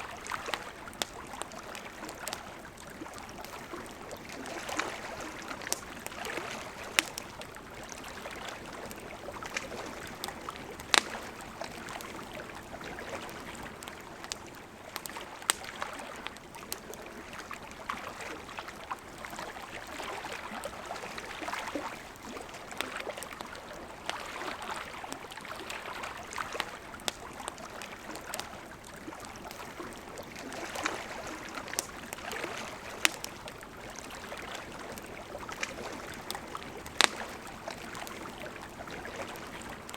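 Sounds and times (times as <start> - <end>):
campfire crackling and popping: 0.0 - 39.9
river running: 0.0 - 39.9.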